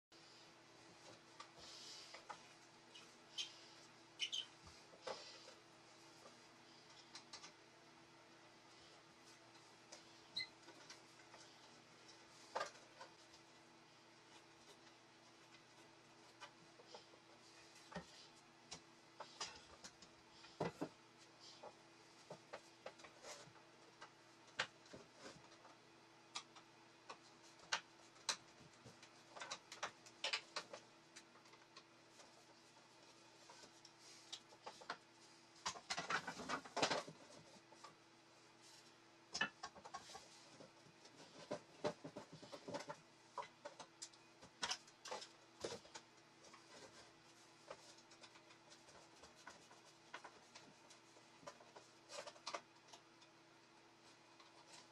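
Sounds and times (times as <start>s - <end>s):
faint steady hum: 0.1s - 54.9s.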